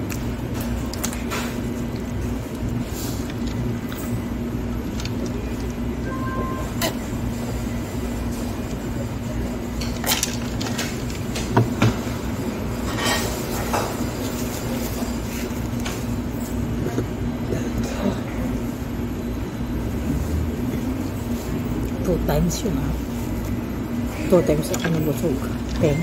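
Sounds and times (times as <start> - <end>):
restaurant crowd hum: 0.0 - 26.0.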